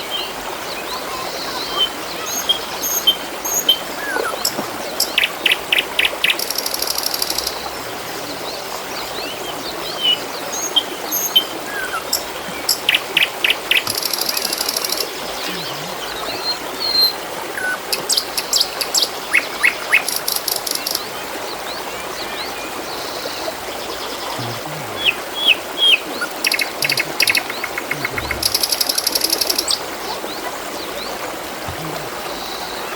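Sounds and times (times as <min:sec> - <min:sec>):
small birds chirping: 0:00.7 - 0:32.9
water trickling: 0:01.1 - 0:32.9.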